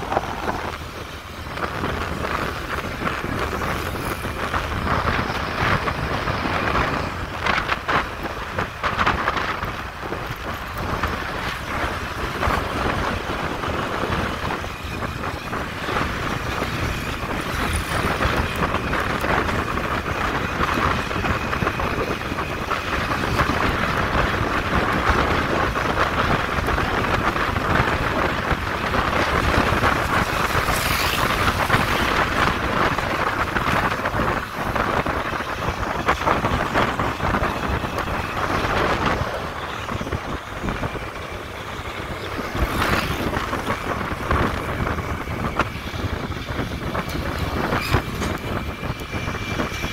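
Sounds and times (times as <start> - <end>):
motorcycle road and engine noise: 0.0 - 49.9
wind rushing over microphone: 0.0 - 49.9.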